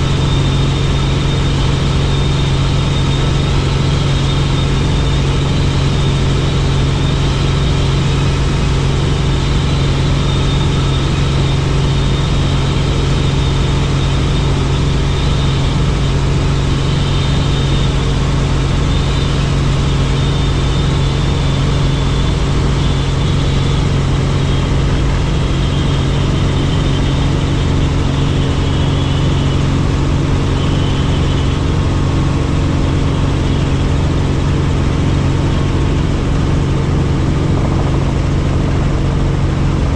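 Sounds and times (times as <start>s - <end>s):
helicopter engine and rotor drone: 0.0s - 39.9s
high whine: 0.0s - 39.9s.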